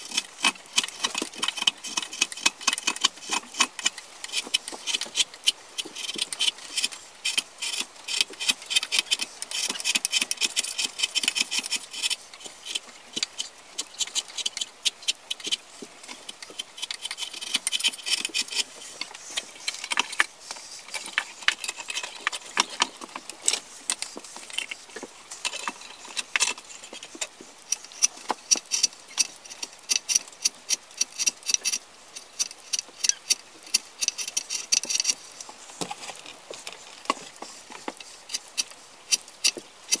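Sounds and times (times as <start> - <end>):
chisel cutting wood: 0.0 - 40.0.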